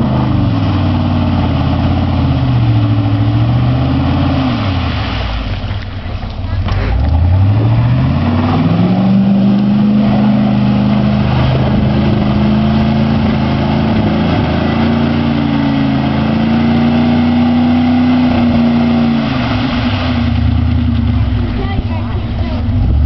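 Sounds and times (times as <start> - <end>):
truck churning through mud: 0.0 - 23.0
truck engine revving: 0.0 - 23.0.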